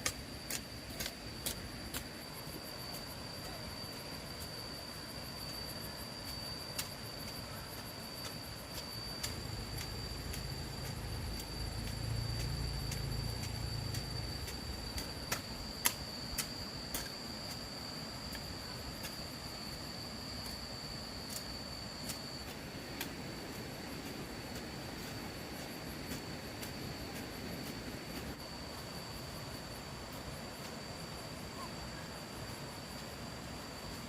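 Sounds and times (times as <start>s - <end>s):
crickets trilling: 0.0s - 34.0s.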